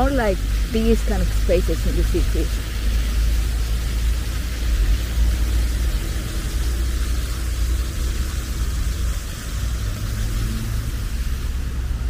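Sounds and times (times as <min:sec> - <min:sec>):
hiss of passing traffic: 0:00.0 - 0:12.0
low rumble of car engines: 0:00.0 - 0:12.0.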